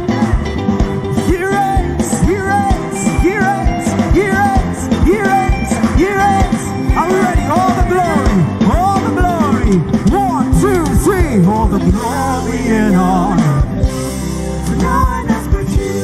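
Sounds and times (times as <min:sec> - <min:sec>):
choir and crowd singing: 0:00.0 - 0:16.0
live gospel band: 0:00.0 - 0:16.0.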